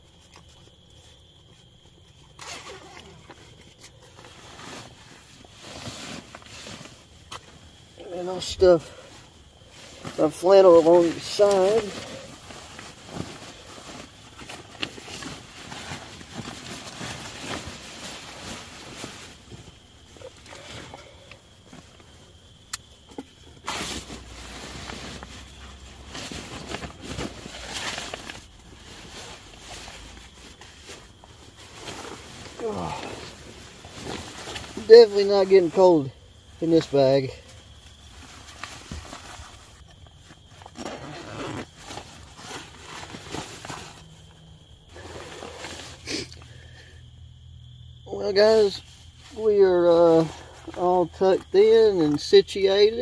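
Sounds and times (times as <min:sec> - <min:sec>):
sleeping bag rustling: 0:00.0 - 0:46.9, 0:48.0 - 0:53.0.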